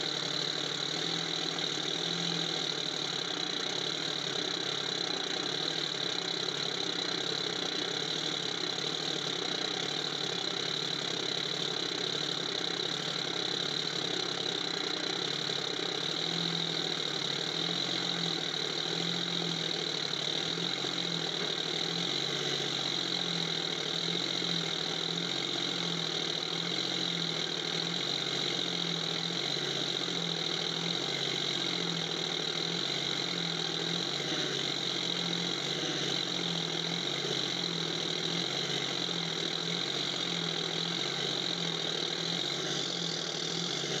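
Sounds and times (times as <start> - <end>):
tractor engine idling: 0.0 - 44.0.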